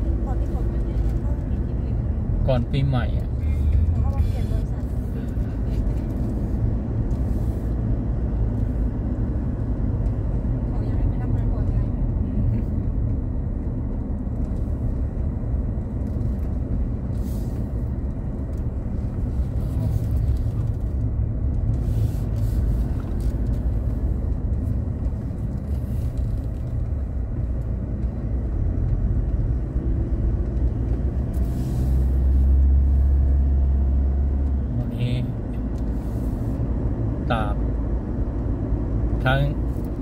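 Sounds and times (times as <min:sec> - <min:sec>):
car engine and tyre rumble: 0:00.0 - 0:40.0.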